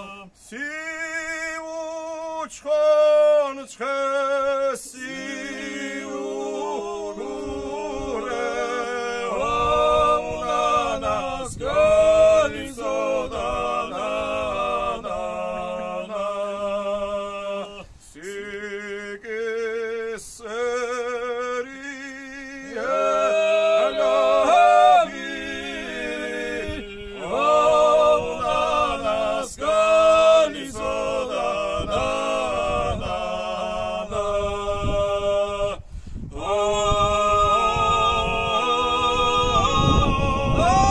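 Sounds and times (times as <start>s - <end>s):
men singing a cappella: 0.0s - 40.9s.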